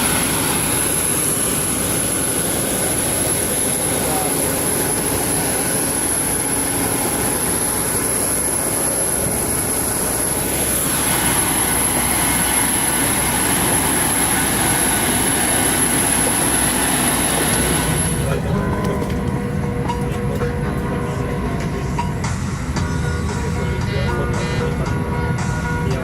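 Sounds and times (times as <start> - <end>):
jet engine roaring and whining: 0.0 - 26.0.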